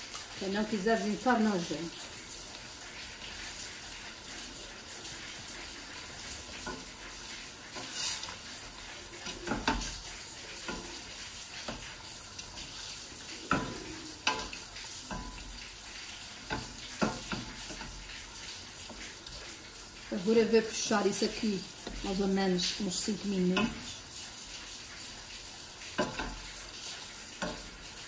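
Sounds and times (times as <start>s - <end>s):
sauce sizzling: 0.0s - 28.0s.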